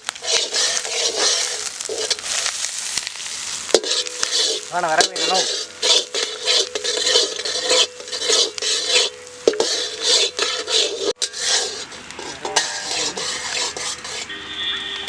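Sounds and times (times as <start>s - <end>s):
metal spatula scraping a pan: 0.0s - 14.8s
light frying sizzle: 0.0s - 15.0s.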